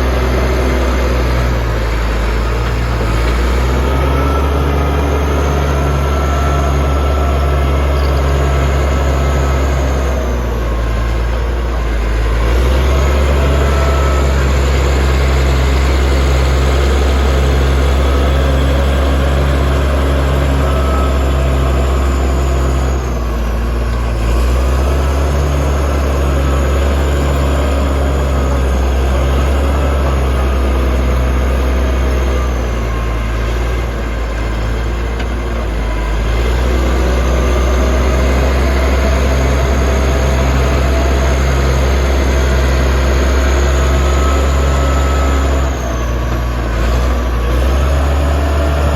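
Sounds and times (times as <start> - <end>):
bulldozer diesel engine droning: 0.0 - 48.9.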